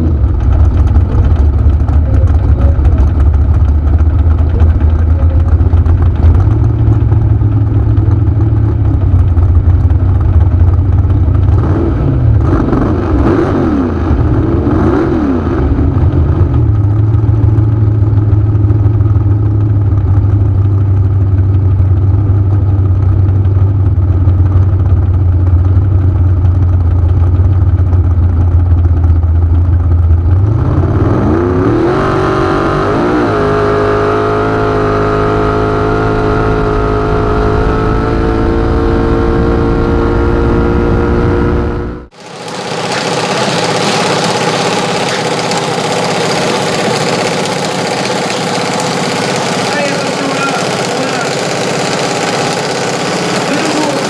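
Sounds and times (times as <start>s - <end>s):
dragster engine idling and revving: 0.0s - 54.0s.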